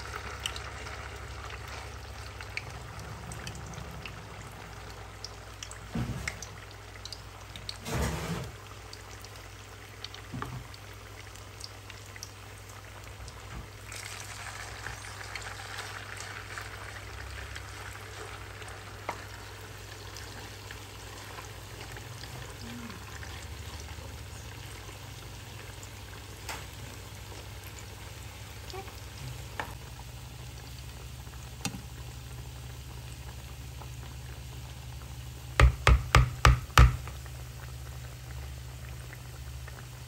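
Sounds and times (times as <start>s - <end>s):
batter deep-frying in oil: 0.0s - 40.0s.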